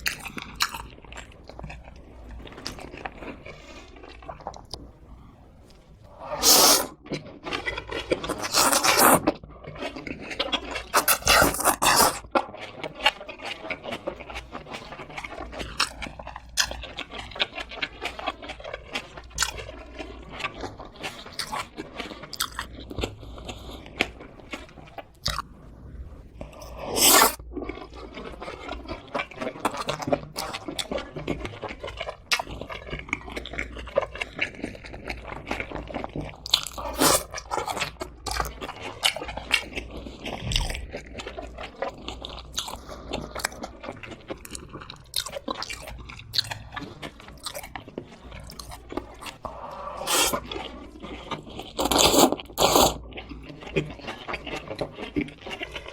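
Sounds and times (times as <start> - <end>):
chewing crispy chicken: 0.0 - 55.9.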